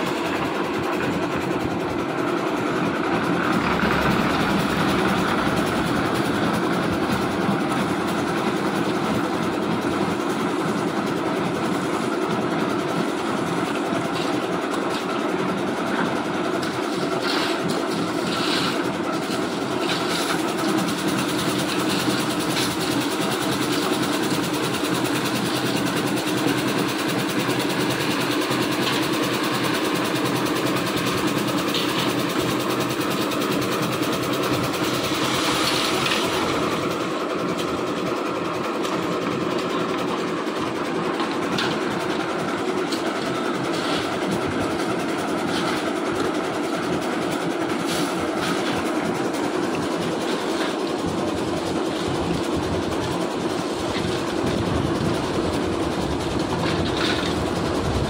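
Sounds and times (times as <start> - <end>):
concrete mixer drone: 0.0 - 58.0.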